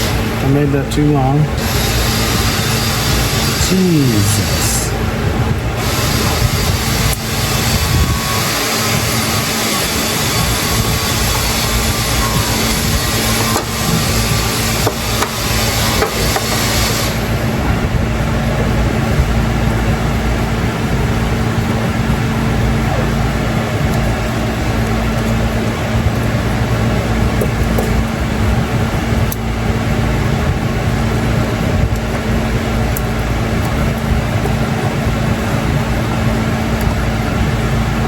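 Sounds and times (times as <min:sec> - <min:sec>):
machine rumble and hum: 0:00.0 - 0:38.0.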